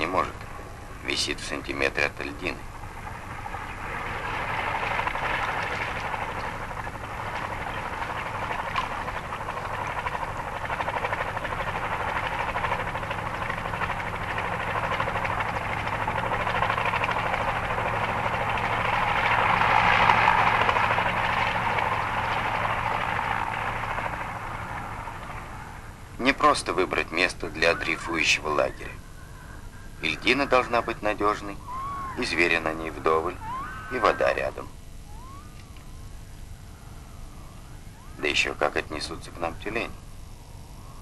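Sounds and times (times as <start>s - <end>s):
helicopter turbines and rotor: 0.0s - 41.0s.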